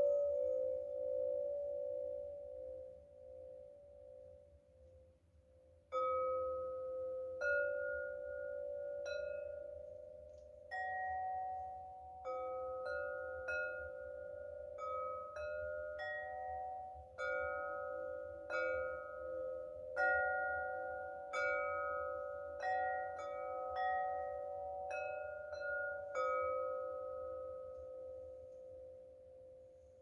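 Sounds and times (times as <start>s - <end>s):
singing bowls ringing: 0.0s - 4.4s, 5.9s - 30.0s.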